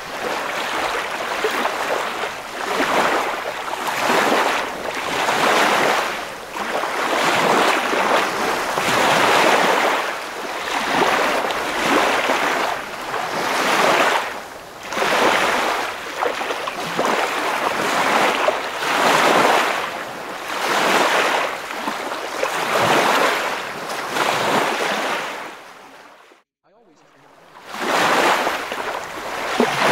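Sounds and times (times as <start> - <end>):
ocean waves washing in: 0.0 - 29.9.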